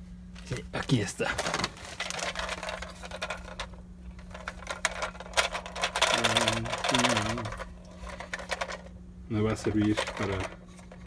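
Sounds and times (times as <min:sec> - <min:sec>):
plastic toys rattling in box: 0:01.2 - 0:08.9, 0:09.6 - 0:11.0.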